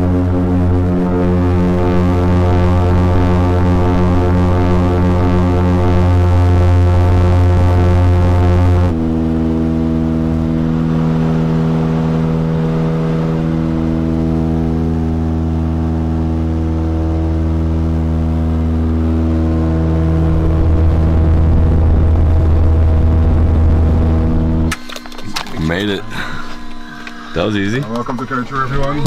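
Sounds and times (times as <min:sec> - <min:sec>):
propeller plane cabin drone: 0:00.0 - 0:29.0.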